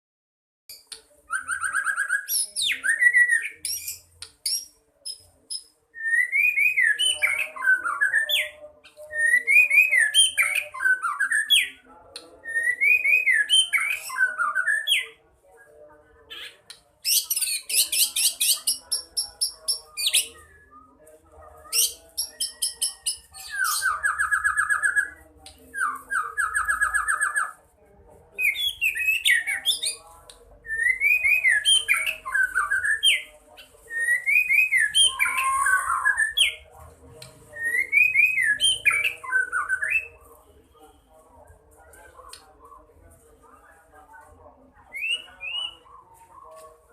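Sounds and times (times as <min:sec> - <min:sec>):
songbird singing: 0:00.7 - 0:15.2, 0:16.3 - 0:27.6, 0:28.4 - 0:40.3, 0:44.9 - 0:46.6.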